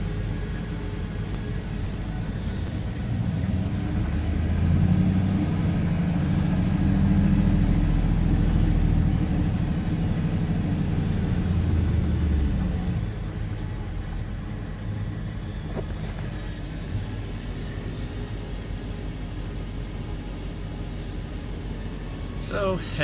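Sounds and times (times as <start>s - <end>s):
truck engine pulling under load: 0.0s - 23.0s.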